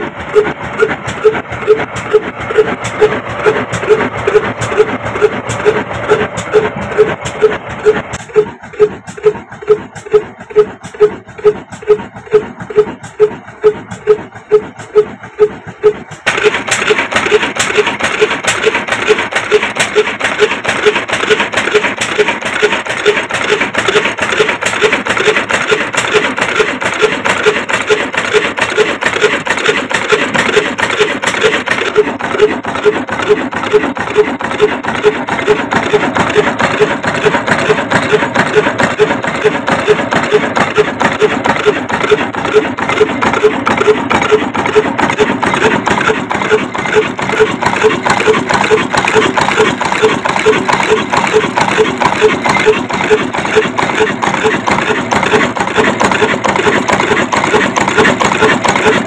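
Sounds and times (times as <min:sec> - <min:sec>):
slow diesel engine beat: 0:00.0 - 0:59.0
stone mill grinding: 0:00.0 - 0:59.0.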